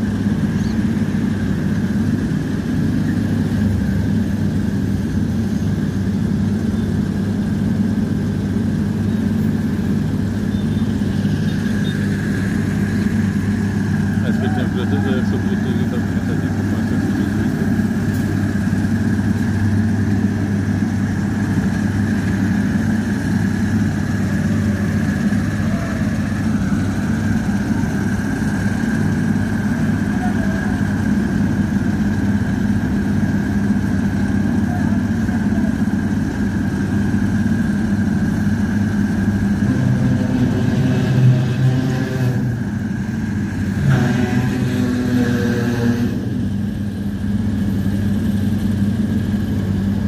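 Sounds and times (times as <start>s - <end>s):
diesel engines droning: 0.0s - 50.0s
thin steady whine: 0.0s - 50.0s.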